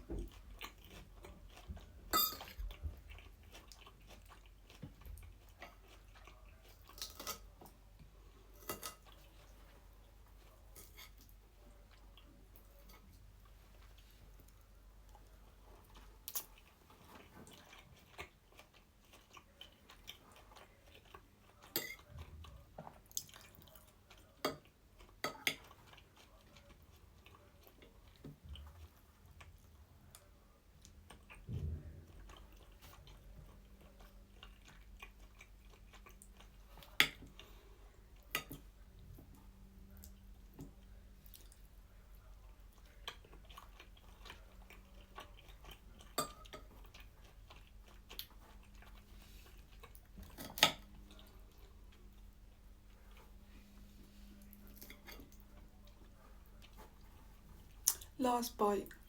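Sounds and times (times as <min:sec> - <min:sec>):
close-up chewing: 0:00.0 - 0:58.2.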